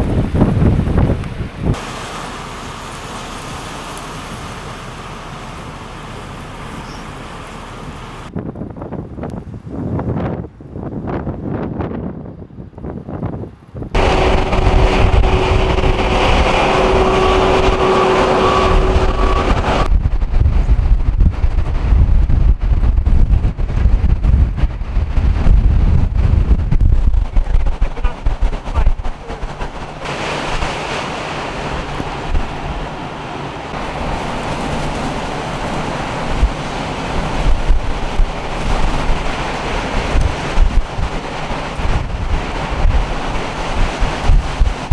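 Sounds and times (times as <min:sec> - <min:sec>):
vehicle engine humming: 0:00.0 - 0:08.3, 0:14.0 - 0:44.7
blizzard wind rushing: 0:00.0 - 0:44.9
wind buffeting microphone: 0:00.0 - 0:44.9.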